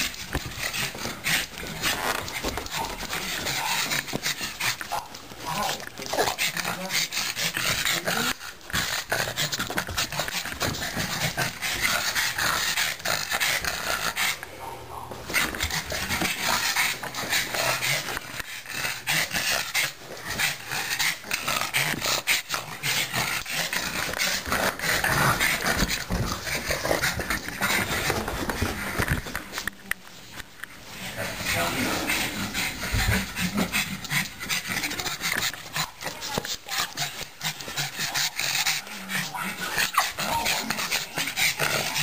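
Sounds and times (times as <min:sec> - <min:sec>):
dog growling: 0:00.0 - 0:29.6, 0:30.9 - 0:42.0
dog panting: 0:00.0 - 0:29.7, 0:30.9 - 0:42.0.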